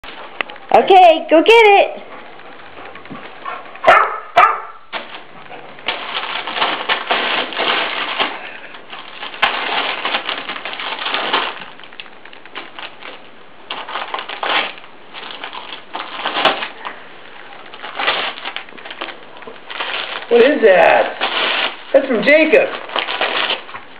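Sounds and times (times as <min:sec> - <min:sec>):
dog ripping wrapping paper: 0:02.7 - 0:23.9.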